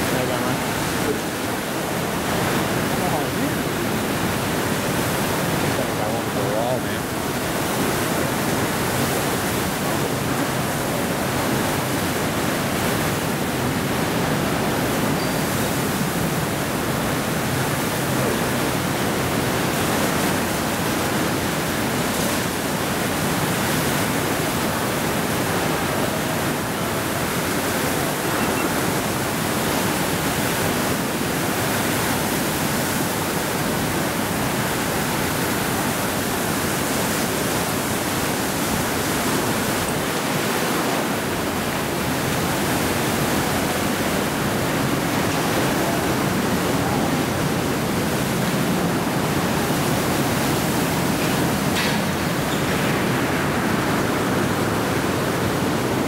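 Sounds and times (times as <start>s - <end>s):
strong wind: 0.0s - 56.0s
torrential rain: 0.0s - 56.0s.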